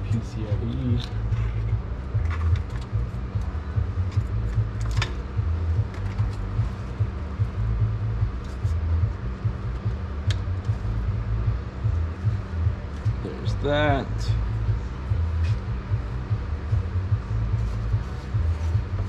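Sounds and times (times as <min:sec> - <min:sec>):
computer rigs and cooling fans humming: 0:00.0 - 0:19.0.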